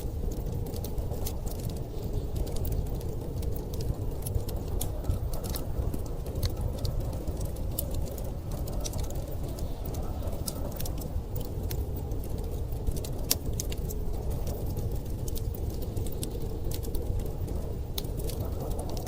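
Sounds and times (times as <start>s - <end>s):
low rumble of storm wind: 0.0s - 19.0s
wood fire crackling: 0.0s - 19.0s.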